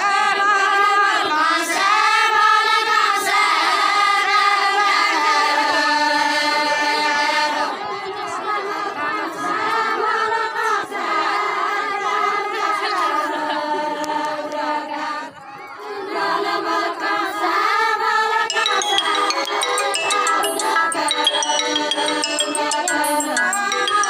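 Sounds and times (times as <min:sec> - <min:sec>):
women singing in unison: 0:00.0 - 0:19.5.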